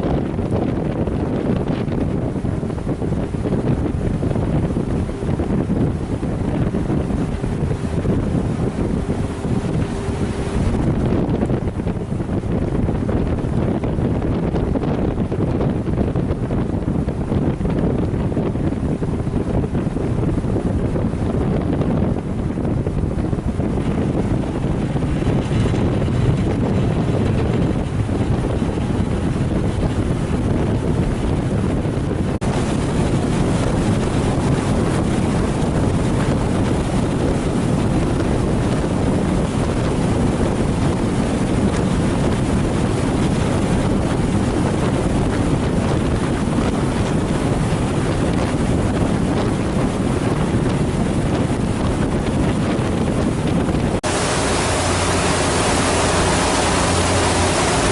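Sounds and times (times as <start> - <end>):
ferry engine rumble: 0.0 - 15.3, 16.0 - 57.9
water noise: 0.0 - 57.9
wind buffeting microphone: 0.0 - 57.9.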